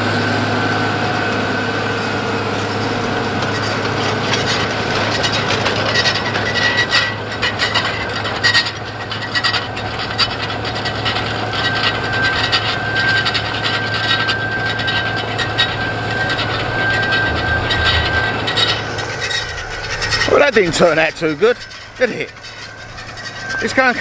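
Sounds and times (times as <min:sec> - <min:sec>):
diesel tractor engine under load: 0:00.0 - 0:24.0
machinery clattering and rattling: 0:00.4 - 0:24.0.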